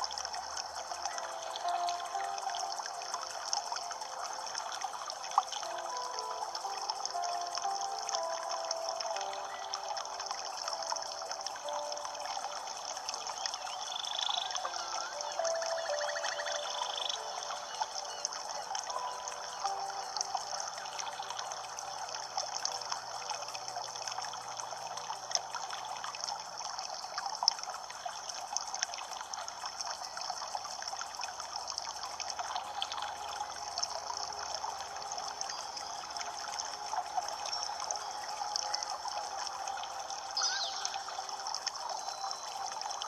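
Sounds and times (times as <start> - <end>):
water trickling and babbling: 0.0 - 43.0.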